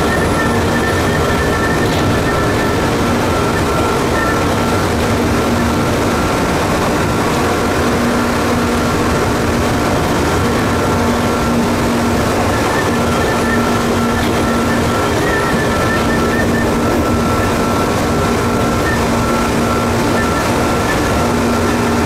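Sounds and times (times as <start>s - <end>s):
traction motor whine: 0.0s - 22.0s
wheel and rail noise: 0.0s - 22.0s
wind noise: 0.0s - 22.0s.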